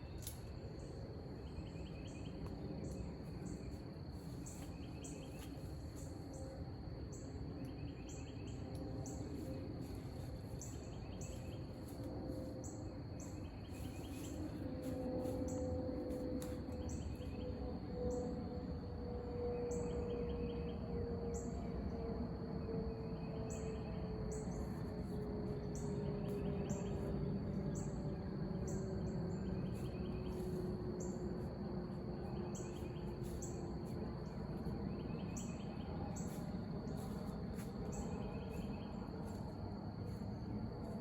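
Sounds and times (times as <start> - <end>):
crickets chirping: 0.0 - 41.0
pulsed insect calls: 0.0 - 41.0
steady high whine: 0.0 - 41.0.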